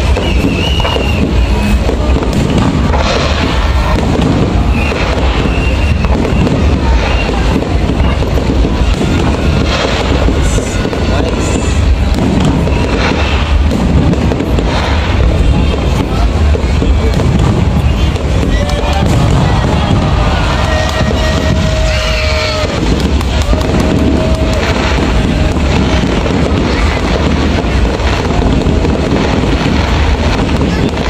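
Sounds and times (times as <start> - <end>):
fireworks booming and crackling: 0.0 - 31.0.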